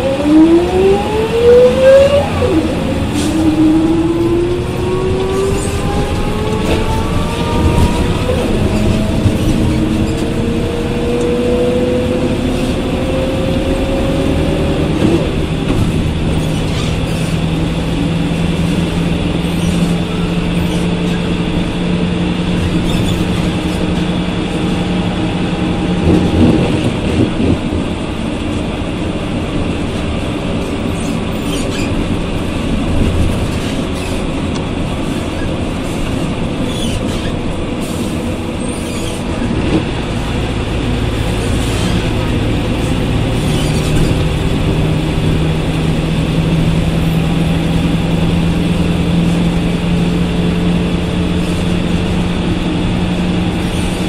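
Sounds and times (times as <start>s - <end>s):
bus engine humming: 0.0s - 54.0s.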